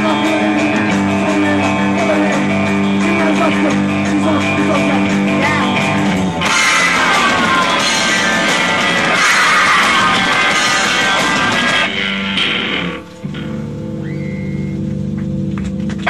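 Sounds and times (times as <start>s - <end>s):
live rock band playing loud: 0.0s - 13.8s
electric guitar sustained chord: 0.0s - 16.0s.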